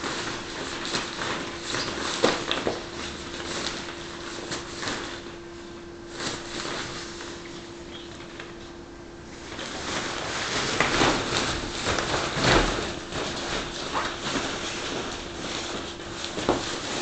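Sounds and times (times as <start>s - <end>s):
faint steady hum: 0.0s - 17.0s
nylon fabric rustling: 0.0s - 17.0s.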